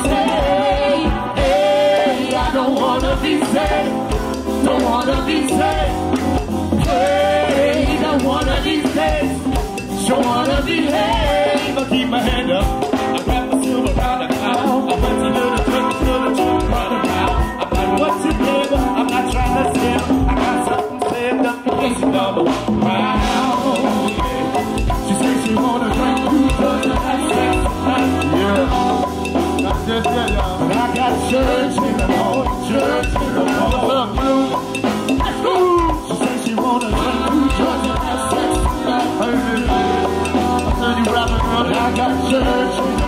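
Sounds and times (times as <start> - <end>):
drum kit and percussion beat: 0.0 - 43.0
live band playing: 0.0 - 43.0.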